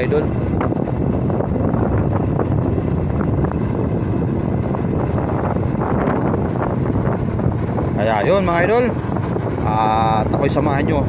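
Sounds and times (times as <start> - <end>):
motorcycle engine and road noise: 0.0 - 11.0
wind buffeting microphone: 0.0 - 11.0.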